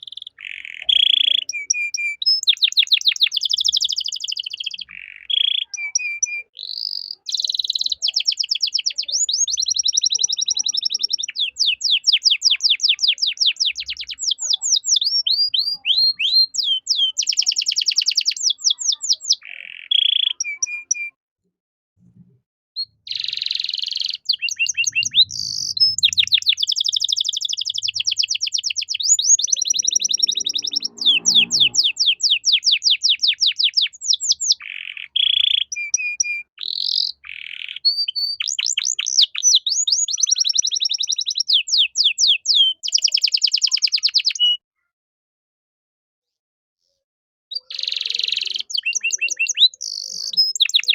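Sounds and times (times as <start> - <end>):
canary singing trills: 0.0 - 21.2, 22.8 - 44.9, 47.5 - 50.9.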